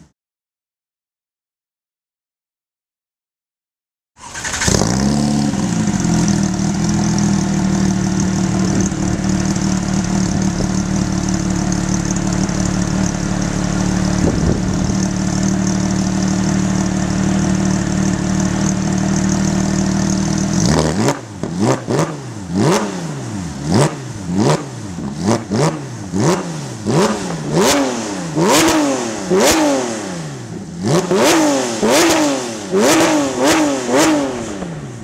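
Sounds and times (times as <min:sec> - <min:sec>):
car engine idling and revving: 0:04.2 - 0:35.0.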